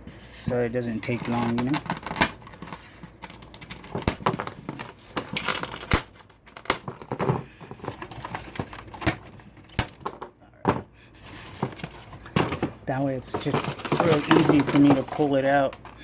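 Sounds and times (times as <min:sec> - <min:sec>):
plastic packaging crinkling: 0:00.8 - 0:10.1, 0:11.2 - 0:16.0.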